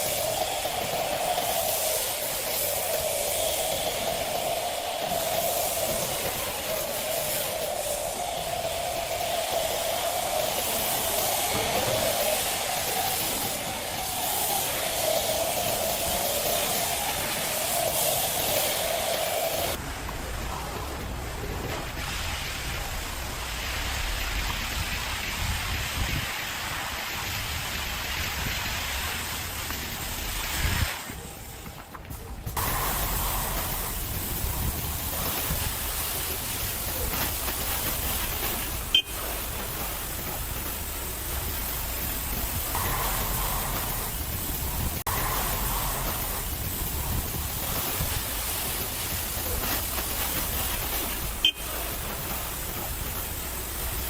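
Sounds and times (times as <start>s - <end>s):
water spray hissing: 0.0s - 54.0s.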